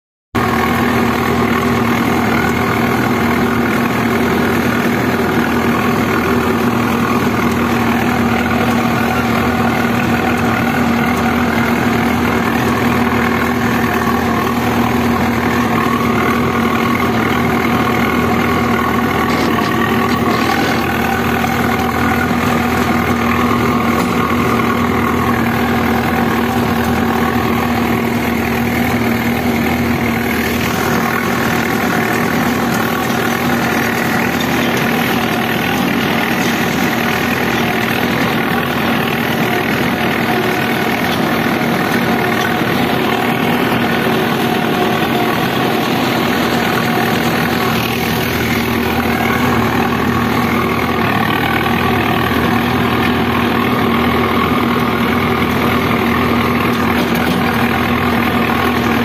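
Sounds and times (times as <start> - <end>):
tractor diesel engine under load: 0.4 - 59.0.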